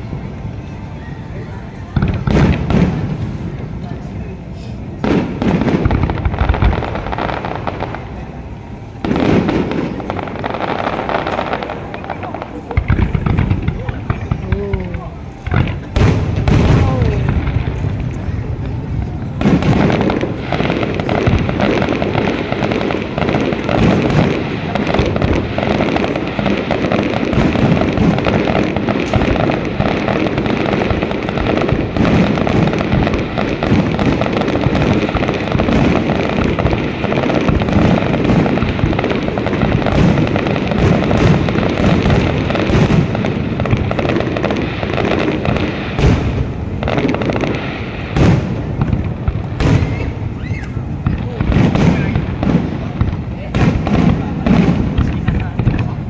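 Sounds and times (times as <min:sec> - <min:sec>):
fireworks booms and bangs: 0:00.0 - 0:56.0.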